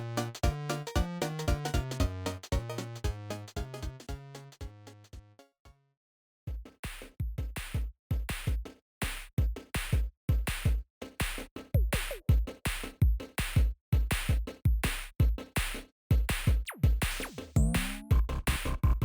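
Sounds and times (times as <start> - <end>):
drum machine beat: 0.0 - 4.8, 6.5 - 19.0.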